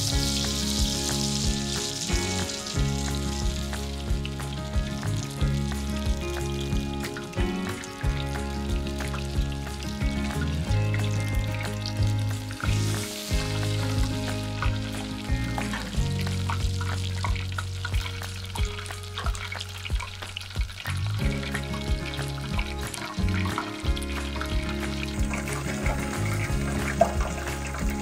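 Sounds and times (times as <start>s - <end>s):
background music with steady beat: 0.0s - 28.0s
shrimp sizzling in hot oil: 0.0s - 28.0s.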